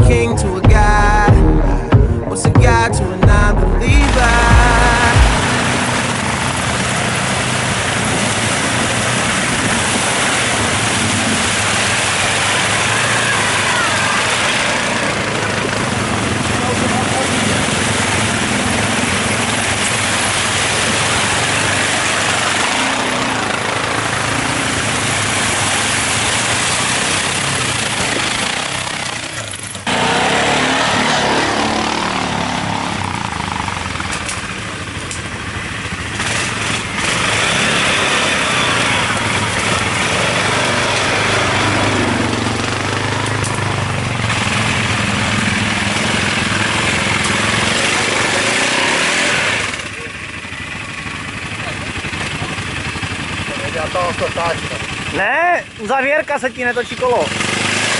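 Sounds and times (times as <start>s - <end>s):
quad bike engine revving: 0.0s - 57.9s.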